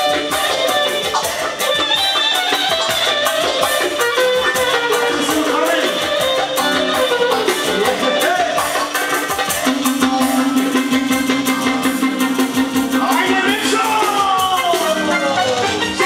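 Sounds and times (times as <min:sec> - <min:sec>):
clarinet melody: 0:00.0 - 0:16.0
guitar: 0:00.0 - 0:16.0
quick steady beat: 0:00.0 - 0:16.0.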